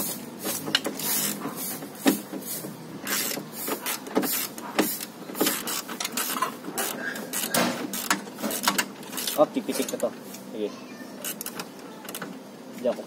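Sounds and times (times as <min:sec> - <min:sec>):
scraping and clicking hand tool strokes: 0:00.0 - 0:10.4, 0:11.2 - 0:13.0.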